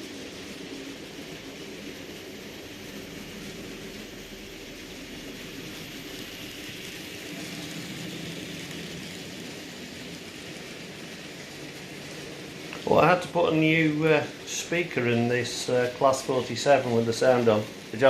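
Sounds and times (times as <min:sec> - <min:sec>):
model trains whirring: 0:00.0 - 0:18.0.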